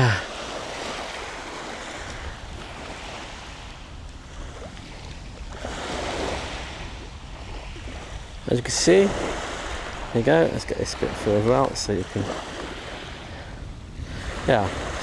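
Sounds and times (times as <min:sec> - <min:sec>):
sea waves washing onto beach: 0:00.0 - 0:15.0
wind on microphone: 0:00.0 - 0:15.0.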